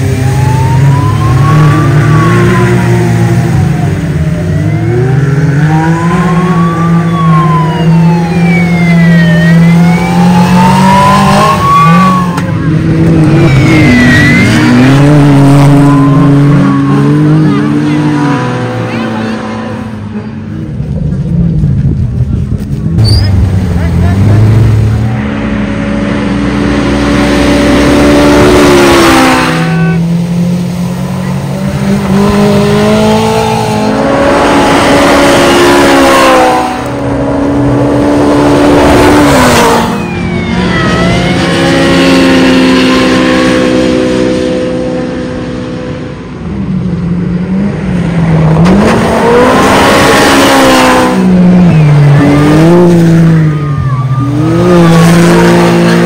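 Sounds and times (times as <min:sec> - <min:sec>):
race cars passing engines revving: 0:00.0 - 0:56.0.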